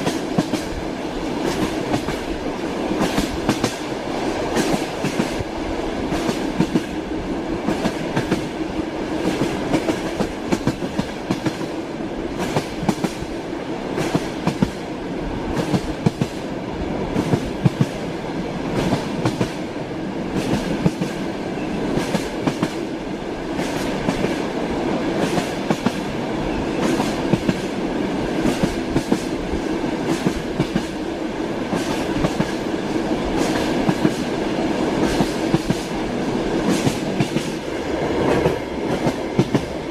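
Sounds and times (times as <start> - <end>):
train wheels clattering on rails: 0.0 - 14.9, 15.5 - 16.5, 17.1 - 19.7, 20.3 - 39.9.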